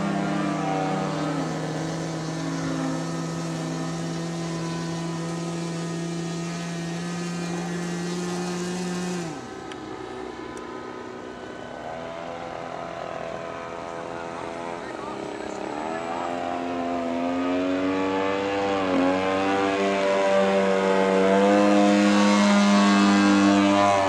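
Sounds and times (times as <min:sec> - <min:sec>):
model plane engine droning: 0:00.0 - 0:24.0.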